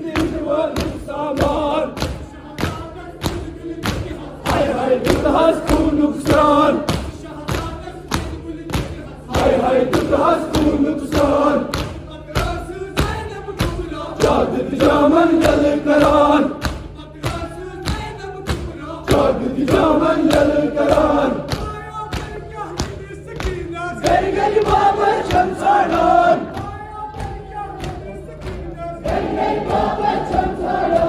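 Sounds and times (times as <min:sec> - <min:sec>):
men chanting together: 0:00.0 - 0:21.7, 0:23.6 - 0:31.0.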